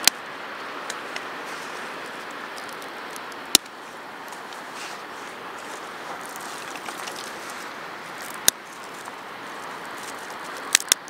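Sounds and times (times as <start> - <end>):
ocean surf rushing: 0.0 - 11.0
dry twigs snapping: 0.8 - 11.0.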